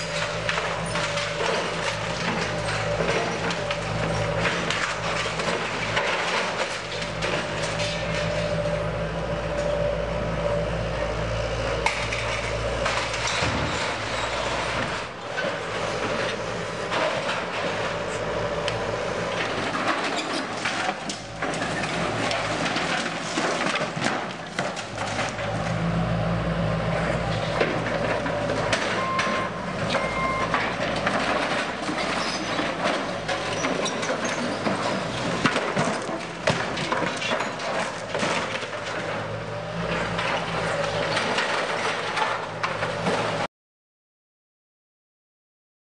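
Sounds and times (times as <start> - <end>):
building being broken up: 0.0 - 8.8, 11.8 - 43.5
heavy machinery engine running: 0.0 - 43.5.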